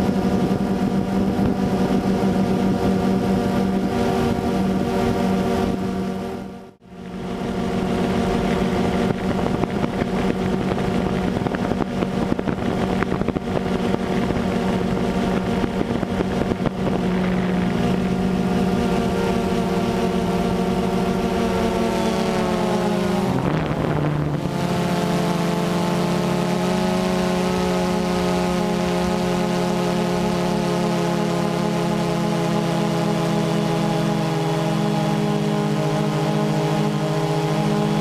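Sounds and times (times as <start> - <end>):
drone propellers buzzing: 0.0 - 38.0.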